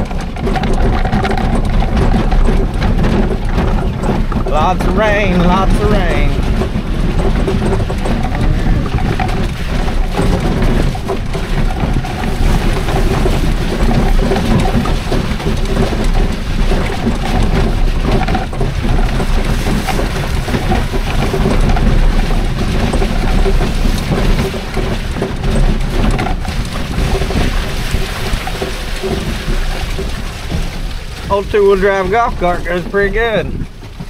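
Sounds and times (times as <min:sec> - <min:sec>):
golf cart driving: 0:00.0 - 0:34.0
rain on microphone: 0:00.0 - 0:34.0
wind on microphone: 0:00.0 - 0:34.0.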